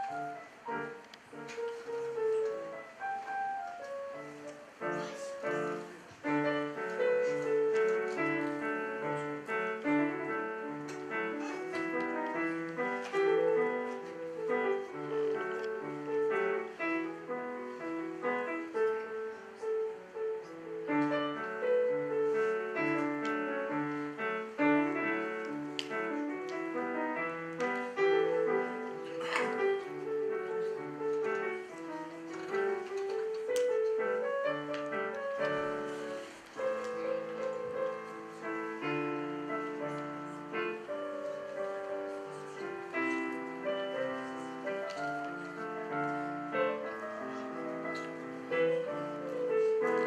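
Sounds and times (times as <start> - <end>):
digital piano piece: 0.0 - 50.0.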